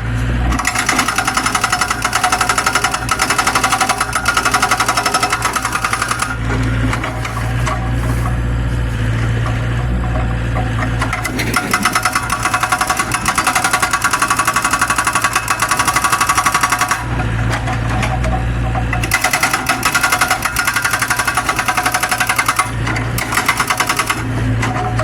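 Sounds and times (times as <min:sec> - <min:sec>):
diesel engine rumbling: 0:00.0 - 0:25.0
hydraulic breaker hammering: 0:00.3 - 0:08.4, 0:09.0 - 0:25.0.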